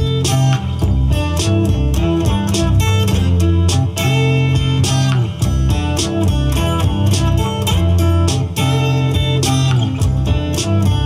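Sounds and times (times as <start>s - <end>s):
pop-rock music through loudspeaker: 0.0s - 11.0s.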